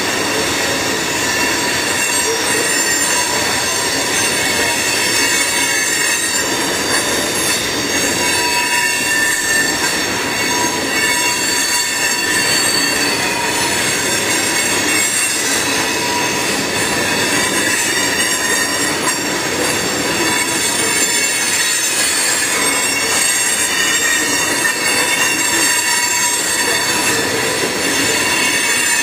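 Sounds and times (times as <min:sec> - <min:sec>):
freight train rumble and rattle: 0:00.0 - 0:29.0
high wheel squeal: 0:00.0 - 0:29.0.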